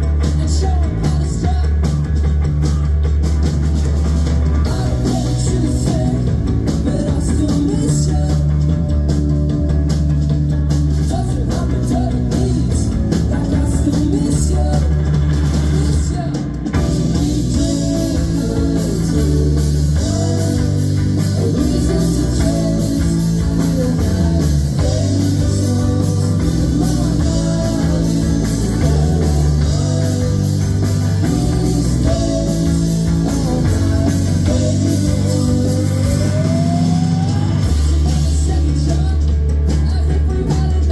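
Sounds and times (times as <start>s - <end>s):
bass guitar: 0.0s - 40.9s
drum kit: 0.0s - 40.9s
electric guitar: 0.0s - 40.9s.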